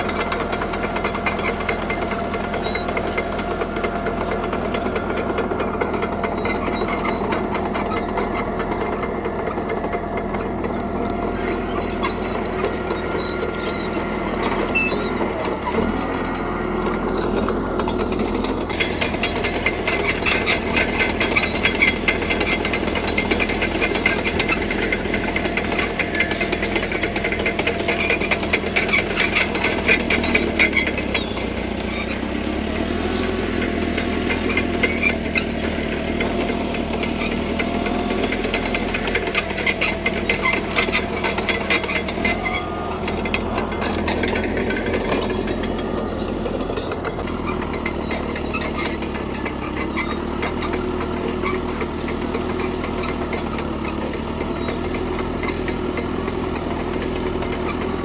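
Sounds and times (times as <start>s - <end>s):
bulldozer diesel engine under load: 0.0s - 58.0s
steel tracks clanking and squealing: 0.0s - 58.0s.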